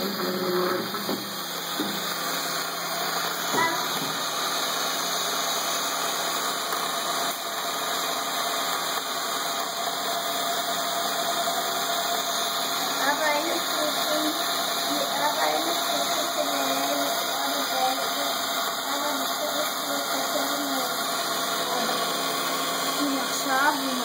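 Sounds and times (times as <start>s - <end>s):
small electric motor whirring: 0.0s - 24.0s.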